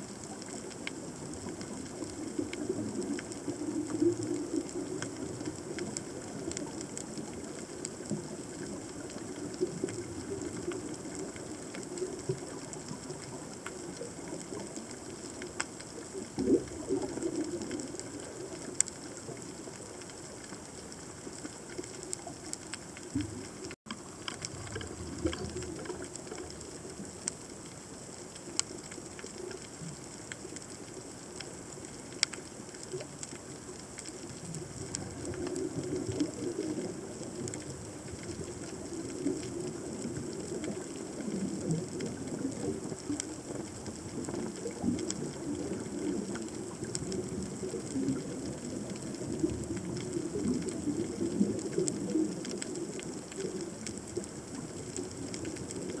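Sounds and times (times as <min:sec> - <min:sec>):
sharp clicks and crackles: 0:00.0 - 0:56.0
underwater rumble of moving water: 0:00.0 - 0:56.0.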